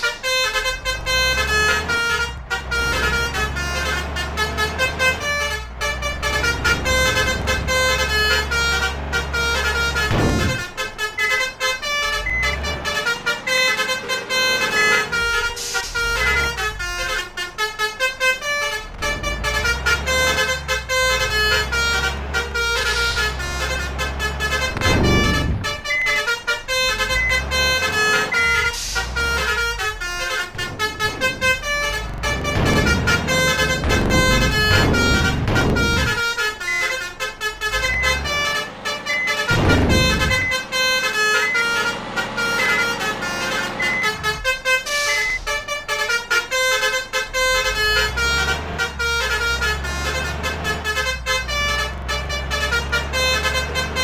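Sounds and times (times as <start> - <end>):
low engine rumble: 0.0 - 54.0
musical air horns: 0.0 - 54.0.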